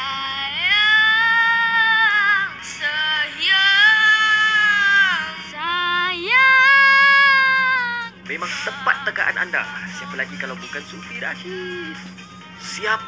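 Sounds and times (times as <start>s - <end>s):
boys singing pop ballad: 0.0s - 13.0s.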